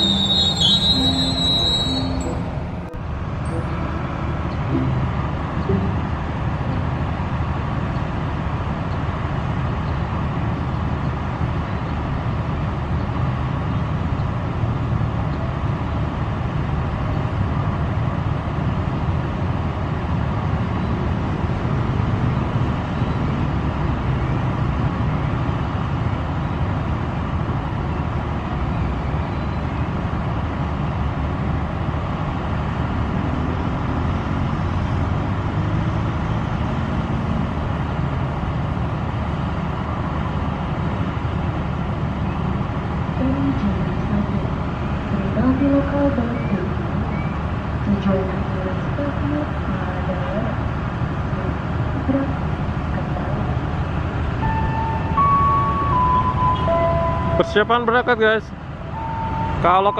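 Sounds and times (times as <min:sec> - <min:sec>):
train diesel engine idling: 0:00.0 - 0:35.7, 0:36.4 - 0:59.9.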